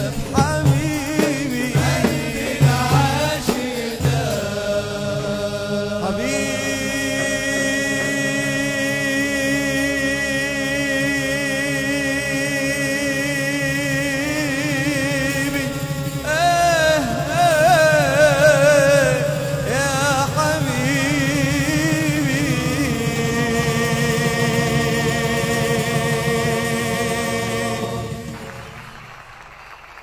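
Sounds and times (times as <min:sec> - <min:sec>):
man singing ornamented melody: 0:00.0 - 0:28.8
male chorus holding notes: 0:00.0 - 0:29.3.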